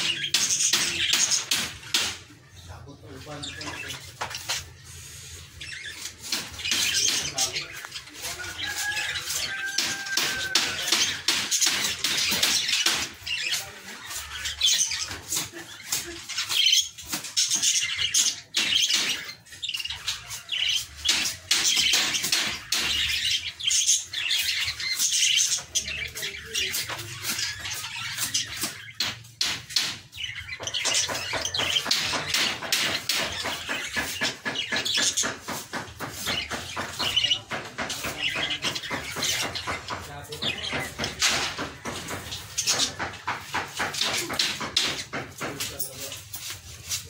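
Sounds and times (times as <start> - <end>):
budgerigars chattering: 0.0 - 46.2.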